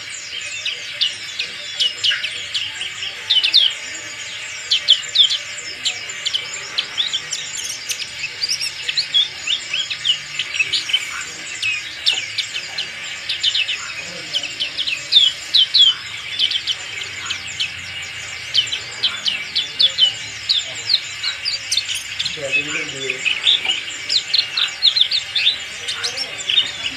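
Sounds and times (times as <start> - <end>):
bird twittering song: 0.0 - 26.9.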